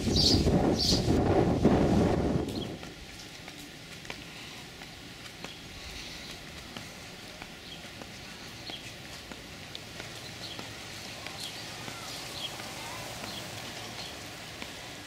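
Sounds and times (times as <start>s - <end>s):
small birds chirping: 0.0s - 1.2s, 2.5s - 15.0s
footsteps on paved path: 0.0s - 15.0s
steady background hiss: 0.0s - 15.0s.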